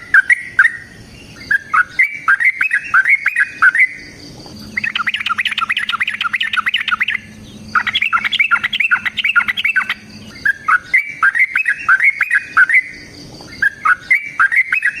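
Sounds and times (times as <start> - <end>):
bulbul singing chattering phrases: 0.0 - 15.0.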